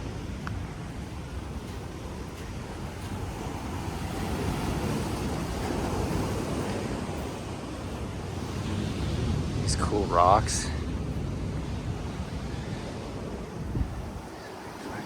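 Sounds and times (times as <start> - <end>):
ocean surf washing on shore: 0.0 - 15.0
wind rumble on microphone: 0.0 - 15.0.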